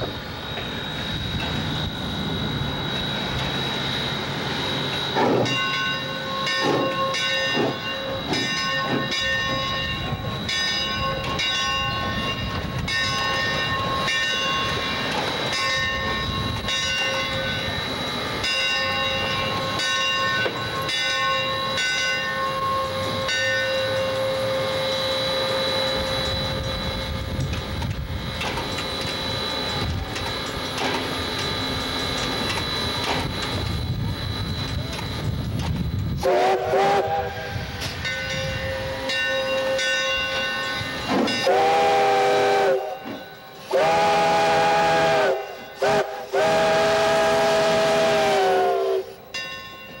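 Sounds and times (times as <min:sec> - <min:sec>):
locomotive bell ringing: 0:00.0 - 0:50.0
locomotive running gear rumble: 0:00.0 - 0:50.0.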